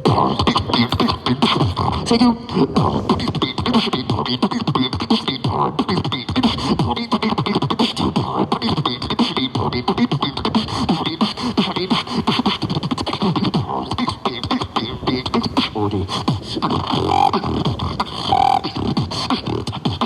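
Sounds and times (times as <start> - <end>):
person beatboxing: 0.0 - 20.0.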